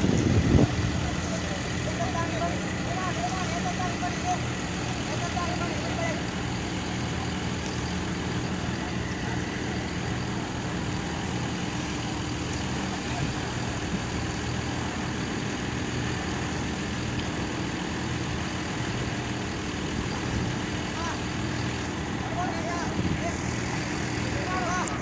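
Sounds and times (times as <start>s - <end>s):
diesel engine running steadily: 0.0s - 25.0s.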